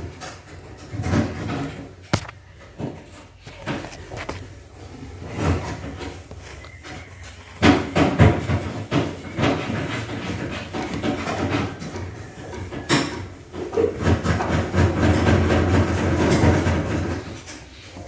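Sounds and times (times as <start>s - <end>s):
knocks clunks and rattles: 0.0s - 17.5s.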